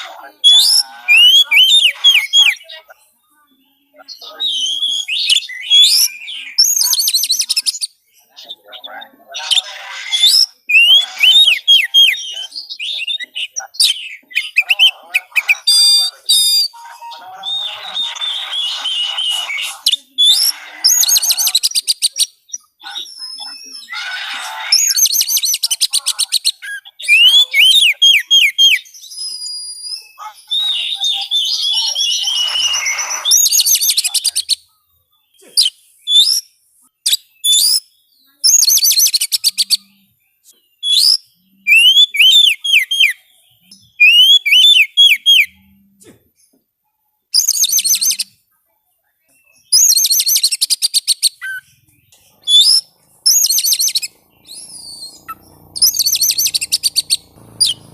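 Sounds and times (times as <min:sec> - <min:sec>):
bird singing trills and whistles: 0:00.0 - 0:45.8, 0:47.2 - 0:48.5, 0:49.2 - 0:57.9.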